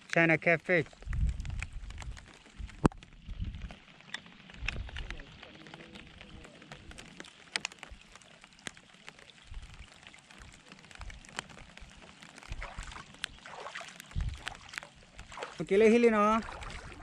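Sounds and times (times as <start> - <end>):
water lapping and trickling: 0.0 - 17.0.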